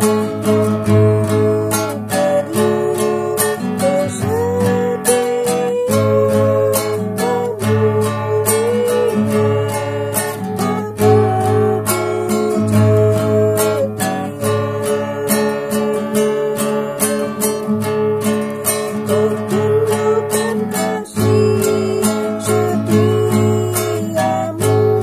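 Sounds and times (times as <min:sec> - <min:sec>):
nylon-string guitar strumming: 0:00.0 - 0:25.0
woman singing: 0:00.0 - 0:25.0.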